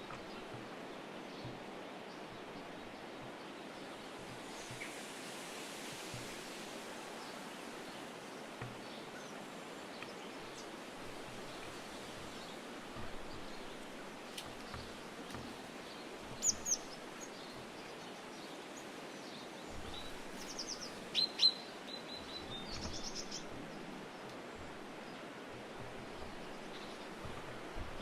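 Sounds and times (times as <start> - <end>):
songbirds chirping and trilling: 0.0 - 28.0
steady background hiss: 0.0 - 28.0.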